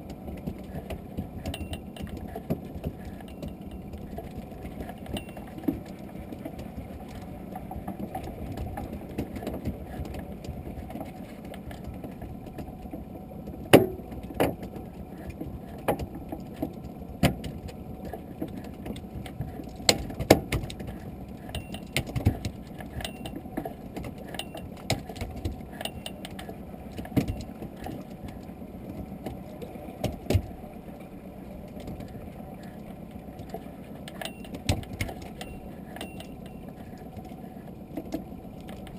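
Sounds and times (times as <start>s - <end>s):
knocks and clicks from boat: 0.0s - 38.9s
water washing against hull: 0.0s - 38.9s.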